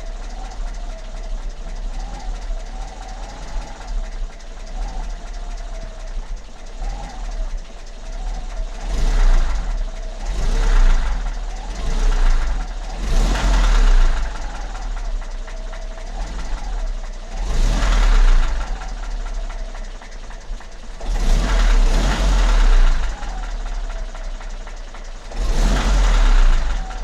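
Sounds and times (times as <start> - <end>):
petrol engine knocking: 0.0 - 27.0.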